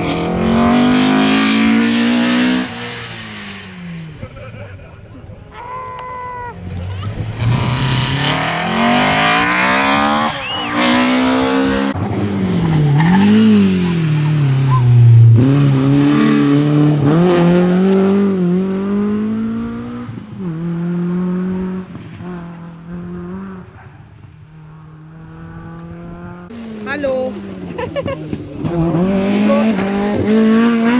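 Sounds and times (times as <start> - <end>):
rally car engine revving past: 0.0 - 4.3, 6.6 - 30.9.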